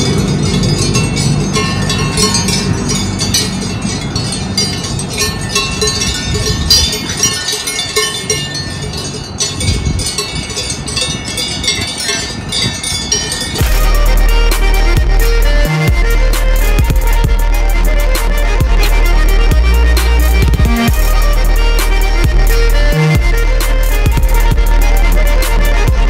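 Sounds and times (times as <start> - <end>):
cowbells clanking: 0.0 - 26.0
low rumble of railway car: 0.0 - 26.0.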